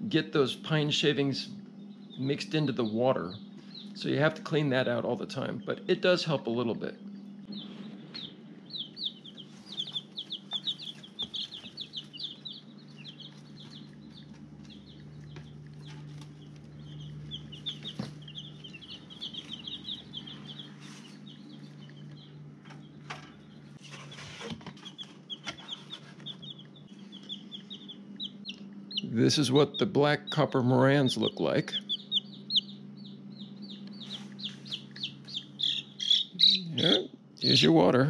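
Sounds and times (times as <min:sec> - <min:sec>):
baby chicks peeping: 0:00.0 - 0:38.0
low hum: 0:00.0 - 0:38.0.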